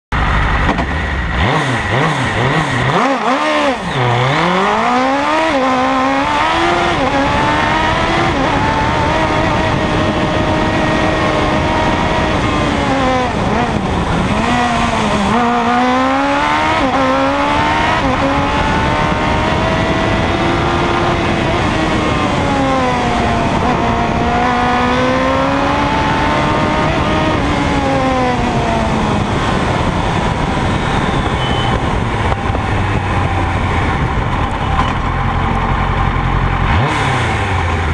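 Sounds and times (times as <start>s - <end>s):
motorcycle engine revving: 0.1s - 37.9s.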